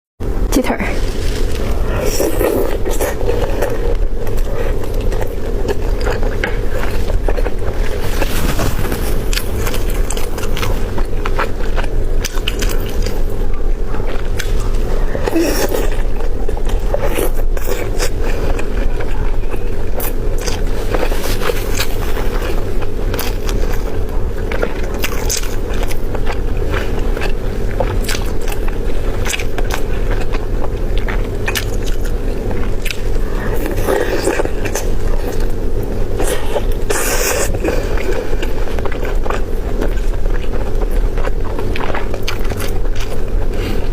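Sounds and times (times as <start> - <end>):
steady low hum: 0.2 - 43.9
person biting and crunching chicken: 1.0 - 43.9.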